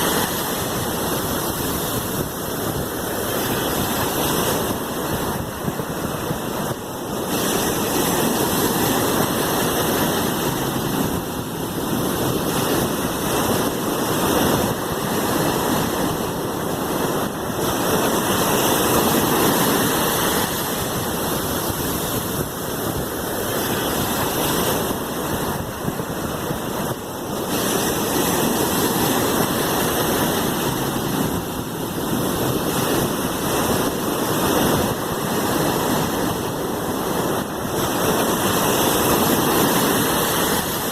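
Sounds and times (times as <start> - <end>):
sea waves washing in surf: 0.0 - 40.9.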